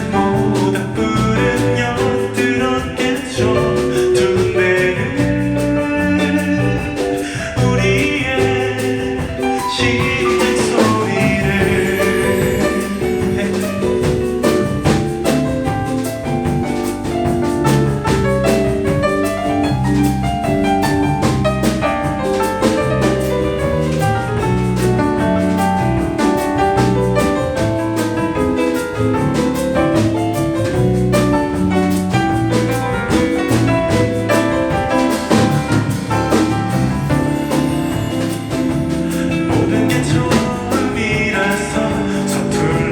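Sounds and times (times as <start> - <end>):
drums steady beat: 0.0 - 42.9
live band instrumental: 0.0 - 42.9.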